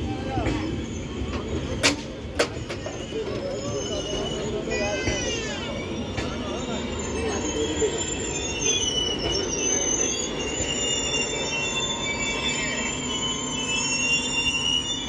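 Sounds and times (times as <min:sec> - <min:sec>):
high-pitched wheel squeals: 0:00.0 - 0:15.0
train coaches rumbling: 0:00.0 - 0:15.0.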